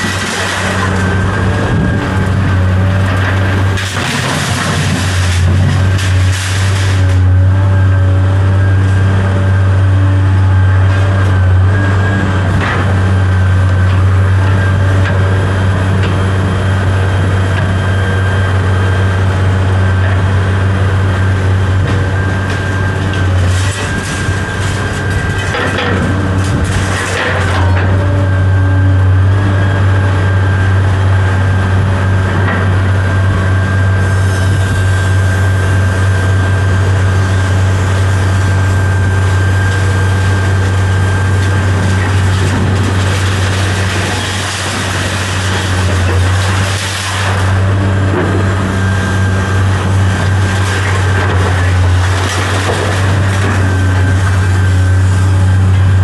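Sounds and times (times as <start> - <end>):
high whine: 0.0 - 56.0
large vehicle engine running: 0.0 - 56.0.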